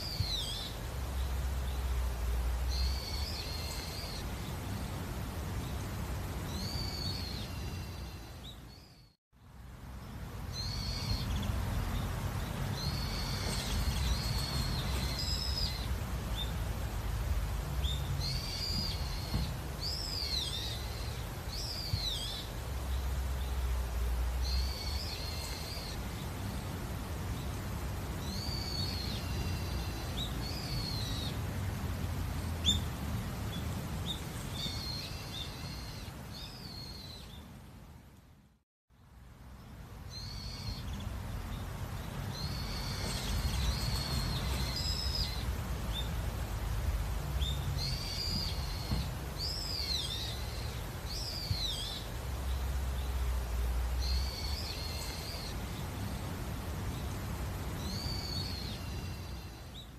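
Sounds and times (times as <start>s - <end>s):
songbirds warbling: 0.0s - 38.0s, 39.4s - 59.9s
low steady rumble: 0.0s - 59.9s.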